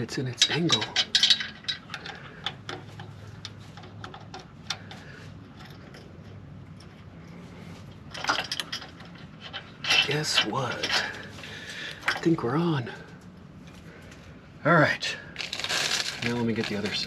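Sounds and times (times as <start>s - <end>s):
light metal clicks and rattles: 0.0s - 14.2s.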